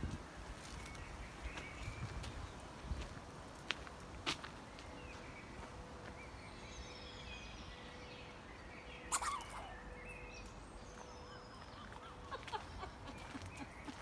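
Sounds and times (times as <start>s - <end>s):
songbirds twittering: 0.3s - 14.0s.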